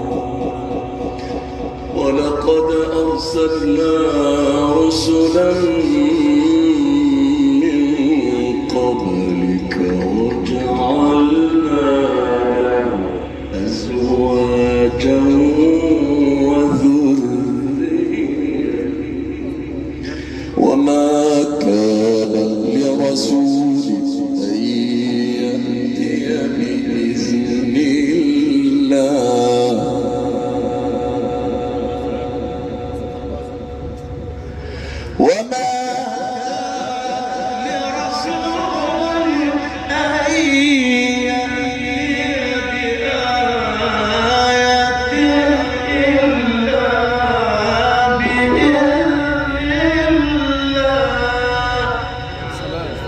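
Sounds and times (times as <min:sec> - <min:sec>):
man reciting melodically: 0:00.0 - 0:53.0.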